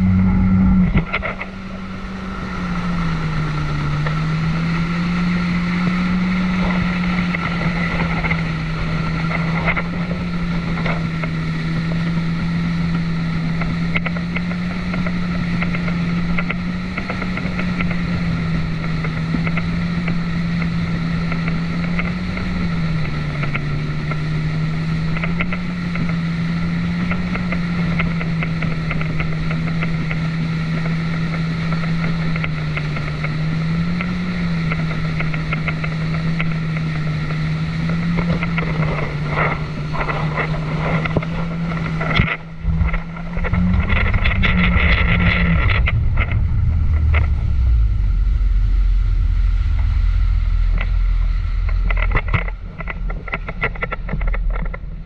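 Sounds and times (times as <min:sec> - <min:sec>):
jet ski engine running: 0:00.0 - 0:55.0.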